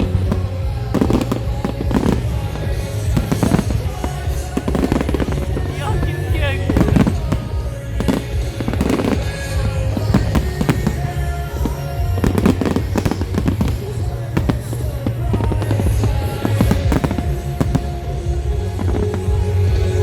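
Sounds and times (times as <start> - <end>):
fireworks bangs and crackles: 0.0 - 20.0
music playing: 0.0 - 20.0.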